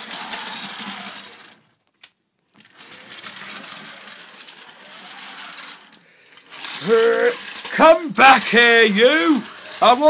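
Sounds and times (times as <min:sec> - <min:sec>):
toy train motors whirring: 0:00.0 - 0:01.7, 0:02.6 - 0:10.0.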